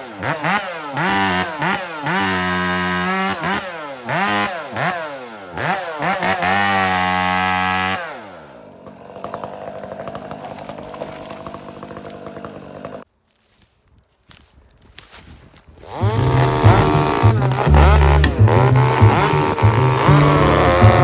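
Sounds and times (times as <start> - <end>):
chainsaw engine revving: 0.0 - 13.0, 15.8 - 21.0.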